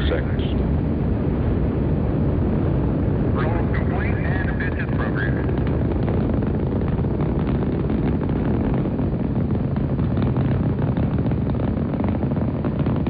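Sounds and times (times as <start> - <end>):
rocket engines rumbling and crackling: 0.0 - 13.0.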